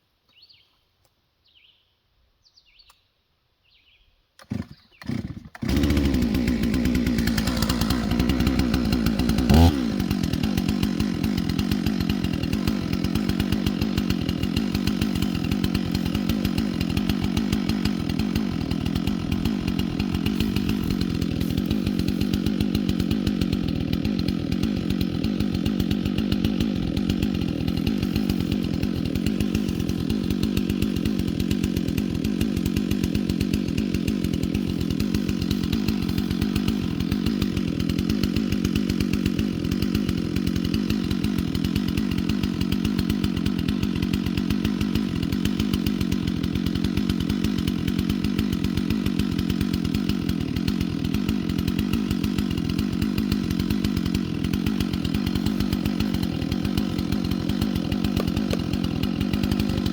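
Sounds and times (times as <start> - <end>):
chainsaw running: 4.4 - 59.9.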